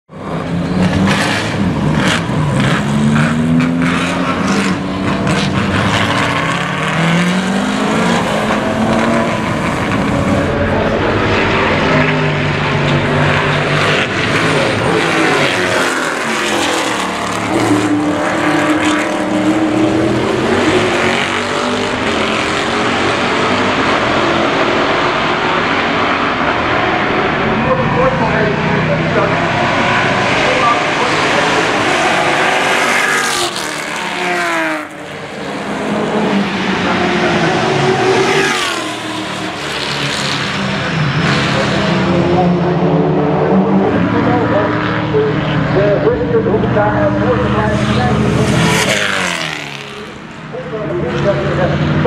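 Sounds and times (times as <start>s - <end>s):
race car engine accelerating: 0.2s - 52.0s.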